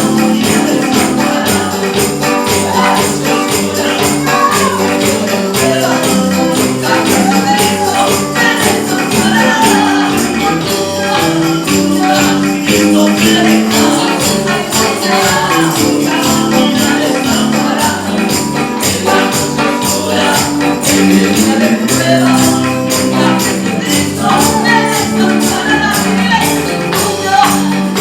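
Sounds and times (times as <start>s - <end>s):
tambourine beat: 0.0s - 28.0s
upbeat praise band music: 0.0s - 28.0s.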